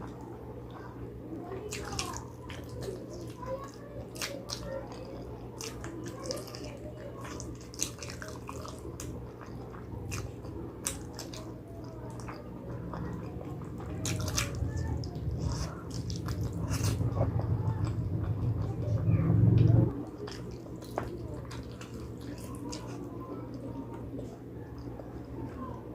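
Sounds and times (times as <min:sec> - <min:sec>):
wet chewing: 0:00.0 - 0:25.6.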